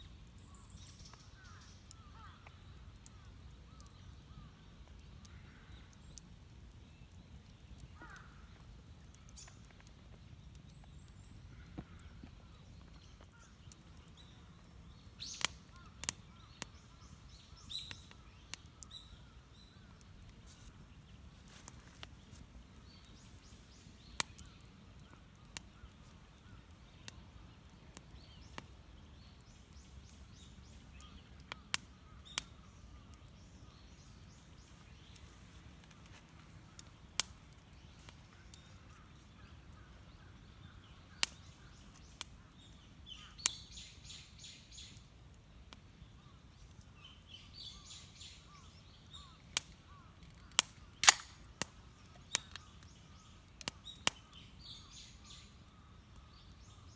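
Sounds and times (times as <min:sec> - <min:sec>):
campfire crackling and popping: 0:00.0 - 0:56.9
small bird chirping: 0:00.2 - 0:45.0, 0:46.1 - 0:51.2, 0:52.0 - 0:56.9.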